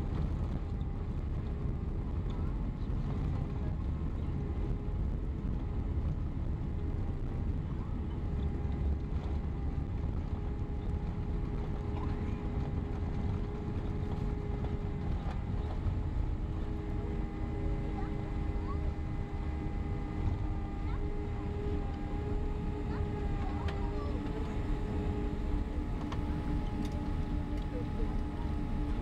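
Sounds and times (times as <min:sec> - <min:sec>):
faint jet engine whine: 0:00.0 - 0:29.0
jet engines rumbling: 0:00.0 - 0:29.0
lower engine tone: 0:00.0 - 0:29.0.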